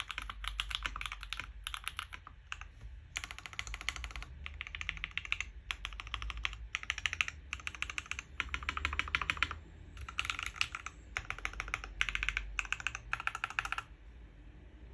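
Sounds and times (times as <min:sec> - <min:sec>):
fast mechanical keyboard typing: 0:00.0 - 0:13.9.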